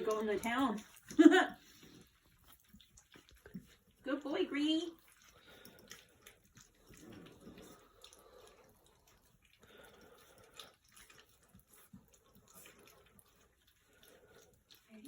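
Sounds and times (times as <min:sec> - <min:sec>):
puppies lapping food: 0:00.0 - 0:15.0.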